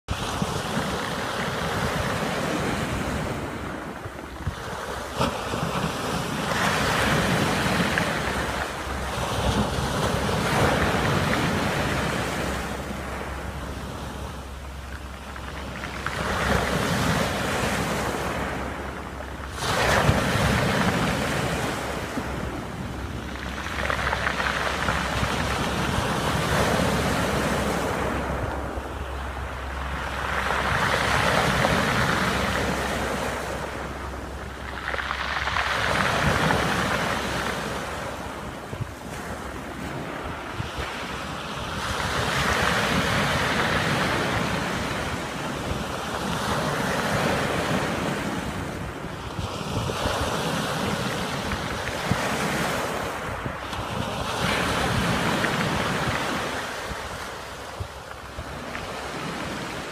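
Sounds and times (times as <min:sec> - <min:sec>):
waves breaking on pebble beach: 0:00.1 - 0:59.9
wind buffeting microphone: 0:00.1 - 0:59.9.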